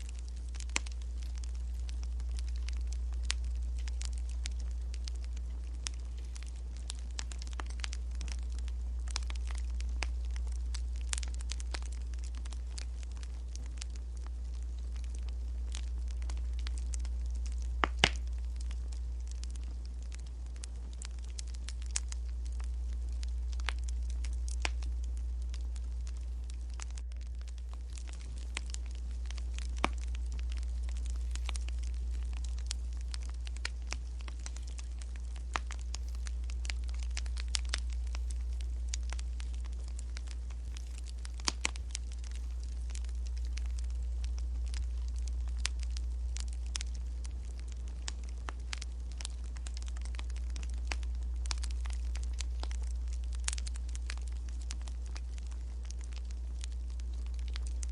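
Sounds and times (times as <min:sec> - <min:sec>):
low hum: 0:00.0 - 0:57.9
steady low rumble: 0:00.0 - 0:57.9
wood fire crackling: 0:00.0 - 0:57.9.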